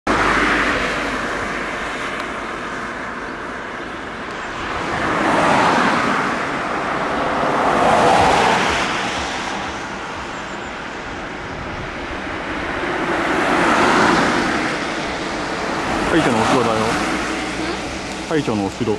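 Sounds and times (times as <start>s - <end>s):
vehicles passing: 0.1s - 18.9s.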